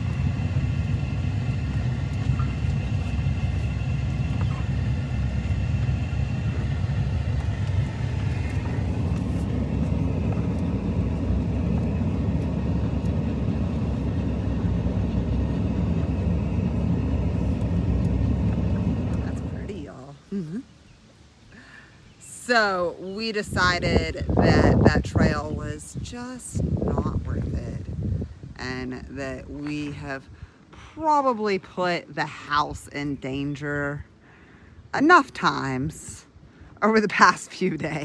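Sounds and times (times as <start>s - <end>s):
faint steady whine: 0.0s - 38.0s
truck engine and road rumble: 0.0s - 38.0s.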